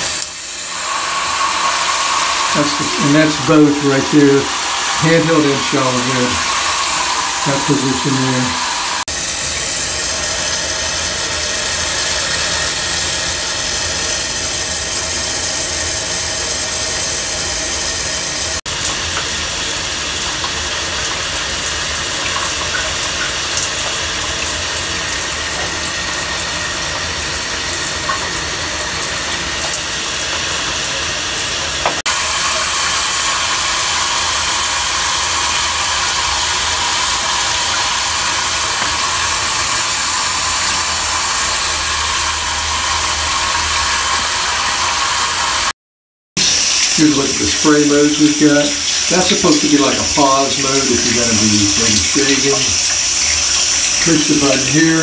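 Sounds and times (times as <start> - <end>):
shower spraying on tiled wall: 0.0 - 45.7, 46.4 - 55.0.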